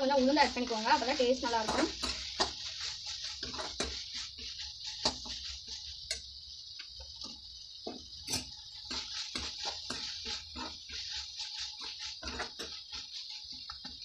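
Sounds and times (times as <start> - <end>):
metal ladle scraping pan: 0.0 - 6.2, 8.2 - 14.0
sizzling of frying: 0.0 - 14.0.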